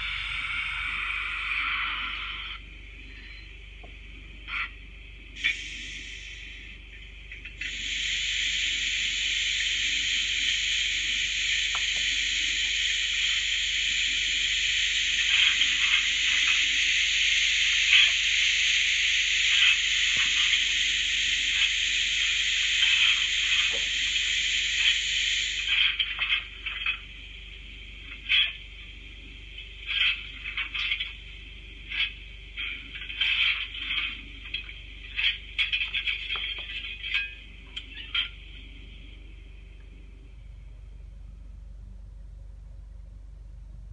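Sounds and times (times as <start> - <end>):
steam hiss: 0.0 - 2.6, 5.3 - 40.6.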